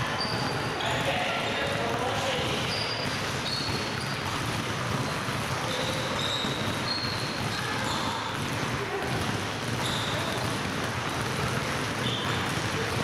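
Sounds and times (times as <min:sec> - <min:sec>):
basketballs bouncing on hardwood: 0:00.0 - 0:13.0
sneaker squeaks: 0:00.0 - 0:13.0.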